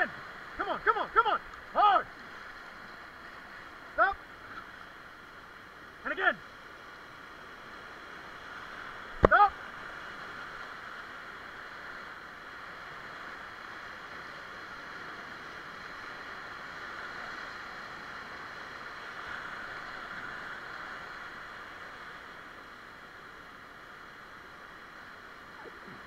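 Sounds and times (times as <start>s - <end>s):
whitewater rushing: 0.0s - 26.0s.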